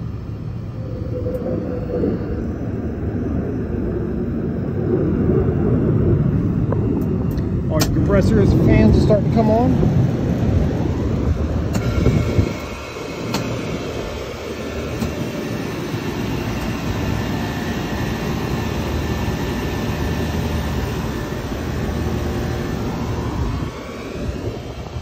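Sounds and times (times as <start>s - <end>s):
hvac unit droning: 0.0s - 25.0s.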